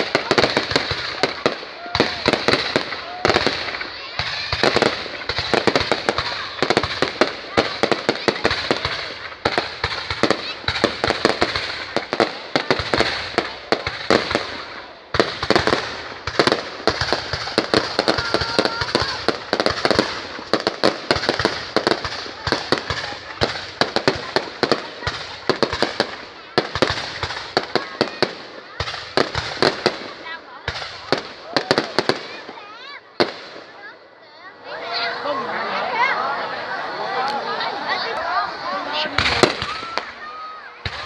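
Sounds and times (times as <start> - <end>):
fireworks cracking and popping: 0.0 - 34.0, 38.0 - 41.0.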